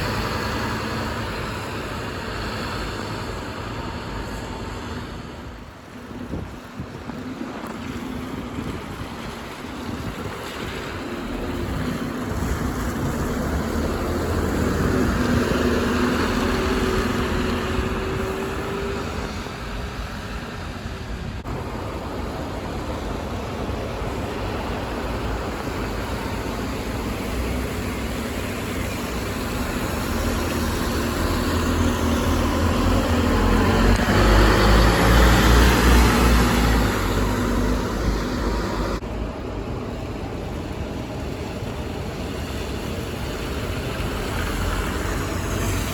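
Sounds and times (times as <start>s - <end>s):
city buses driving past: 0.0s - 45.9s.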